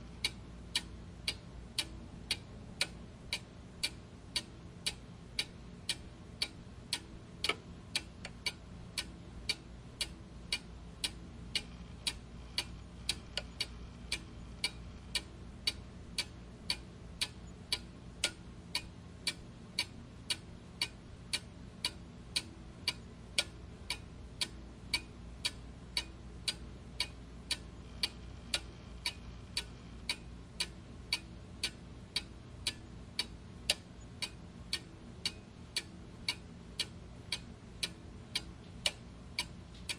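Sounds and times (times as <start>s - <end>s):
faint low hum: 0.0s - 39.9s
clock ticking: 0.1s - 39.9s.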